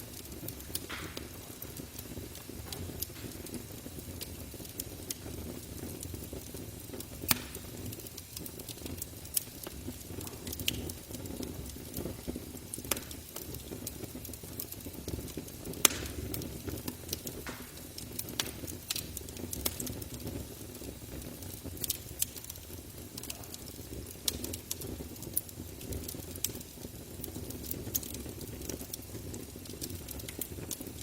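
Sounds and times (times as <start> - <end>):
burning wood popping: 0.0 - 31.0
campfire crackling: 0.0 - 31.0.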